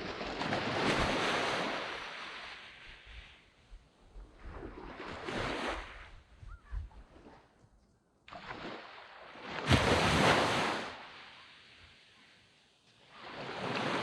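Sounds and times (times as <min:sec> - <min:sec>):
sea waves breaking on beach: 0:00.0 - 0:03.6, 0:04.2 - 0:06.3, 0:08.3 - 0:14.0.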